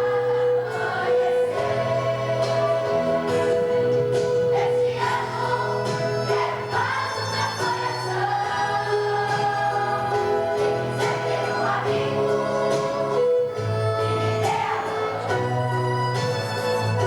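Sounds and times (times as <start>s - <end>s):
choir singing: 0.0s - 16.4s
instrumental accompaniment: 0.0s - 17.0s.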